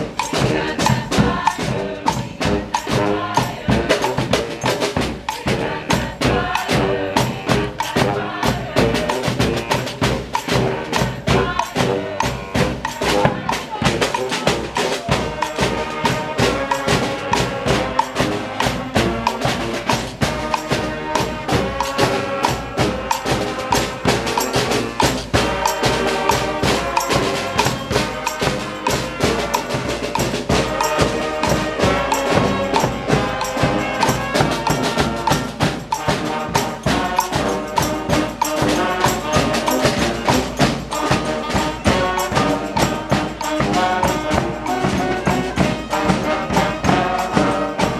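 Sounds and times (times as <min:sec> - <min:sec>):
busy percussion beat: 0:00.0 - 0:47.9
sustained horn lines: 0:00.0 - 0:47.9.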